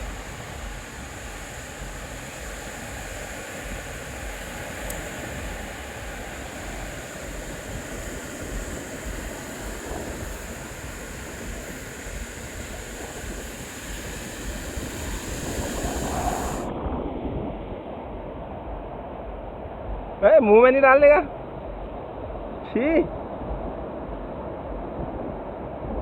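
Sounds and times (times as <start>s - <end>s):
ocean surf washing: 0.0s - 26.0s
wind rumbling on microphone: 0.0s - 26.0s.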